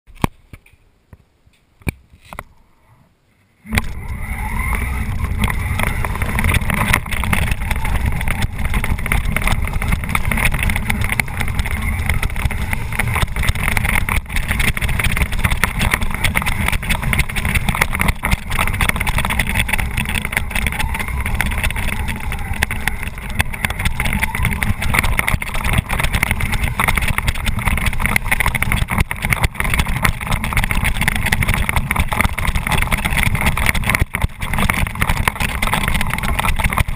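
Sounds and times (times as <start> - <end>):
rattle and rumble over rough ground: 3.6 - 36.9
electric motors whining: 3.7 - 36.9.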